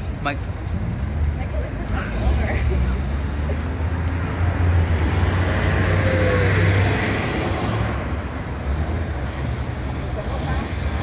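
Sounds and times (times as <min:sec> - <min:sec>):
low traffic rumble: 0:00.0 - 0:11.0
vehicles passing: 0:00.0 - 0:11.0.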